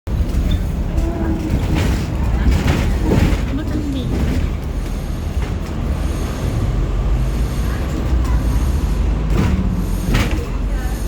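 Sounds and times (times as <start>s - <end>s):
vehicle rumble: 0.1s - 11.0s
faint voices: 0.8s - 4.7s, 5.7s - 11.0s.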